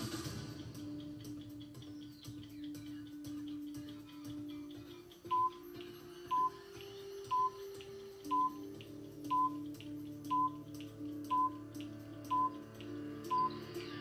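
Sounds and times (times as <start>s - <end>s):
timer beeping: 0.9s - 14.0s.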